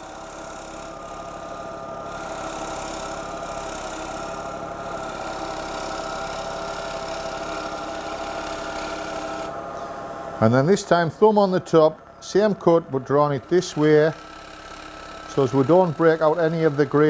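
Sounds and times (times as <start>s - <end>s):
lathe humming: 0.0s - 17.0s.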